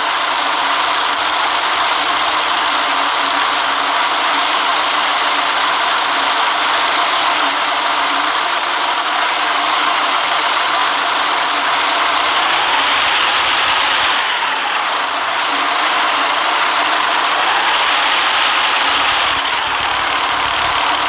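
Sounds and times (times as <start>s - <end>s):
bus engine hum: 0.0s - 21.0s
falling whine: 0.0s - 21.0s
tyres on wet road: 0.0s - 21.0s.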